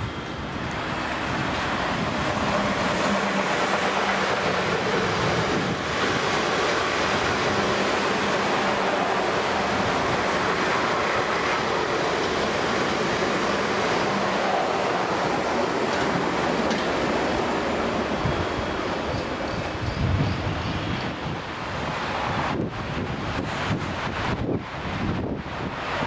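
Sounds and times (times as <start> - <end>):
wind noise on microphone: 0.0 - 13.2, 18.0 - 26.0
train rushing past: 0.0 - 26.0.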